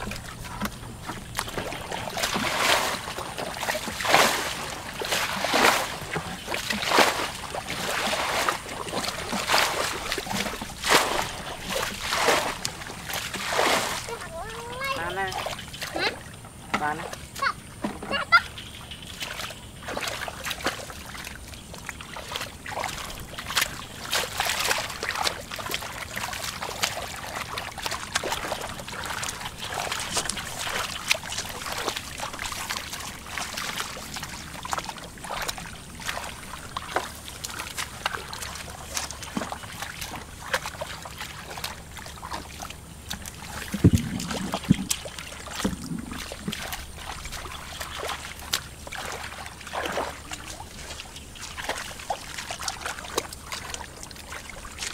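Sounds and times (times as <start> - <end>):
hands splashing in muddy water: 0.0 - 16.2, 19.1 - 54.9.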